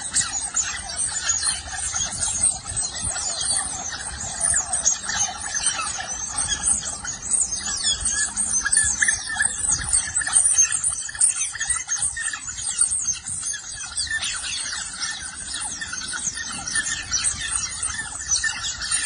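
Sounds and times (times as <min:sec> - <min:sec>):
otters squealing and chirping: 0:00.0 - 0:19.0.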